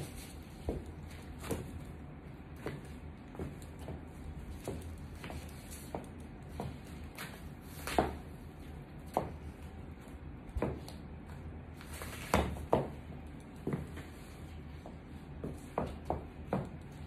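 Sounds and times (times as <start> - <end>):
heeled boots on tiled floor: 0.0 - 17.0.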